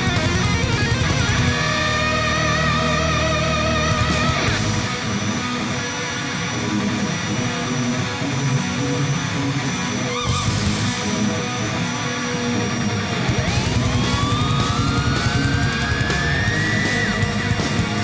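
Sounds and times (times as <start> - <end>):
rising whine: 0.0 - 18.0
rock music with guitar: 0.0 - 18.0.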